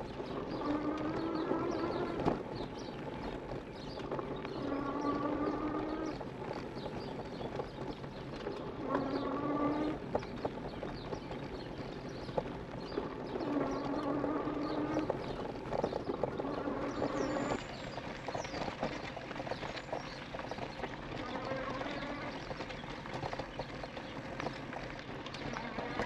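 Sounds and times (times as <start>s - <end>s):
bike frame rattling over bumps: 0.0s - 26.0s.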